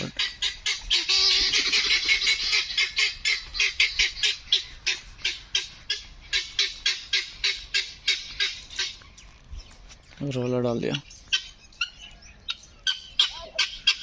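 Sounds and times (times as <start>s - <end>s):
bird calling harsh notes: 0.0s - 14.0s.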